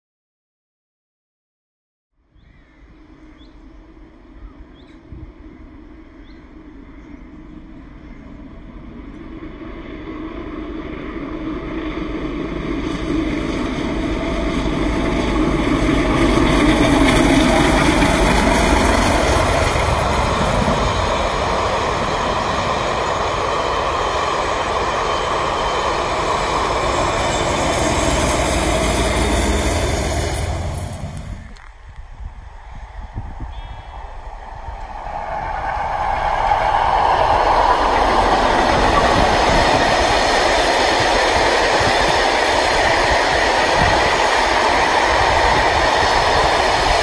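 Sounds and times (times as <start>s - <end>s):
train wheels rumbling: 2.9s - 47.0s
steam locomotive exhaust: 4.8s - 47.0s.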